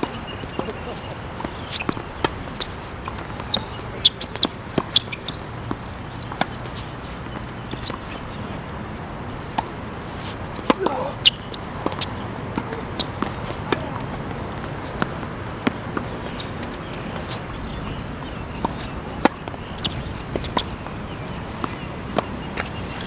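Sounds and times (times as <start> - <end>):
racket strikes and ball bounces: 0.0 - 8.5, 9.4 - 23.0.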